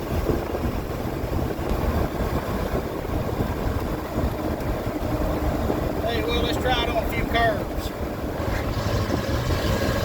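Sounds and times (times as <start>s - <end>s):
pickup truck engine rumble: 0.0s - 10.0s
road noise: 0.0s - 10.0s.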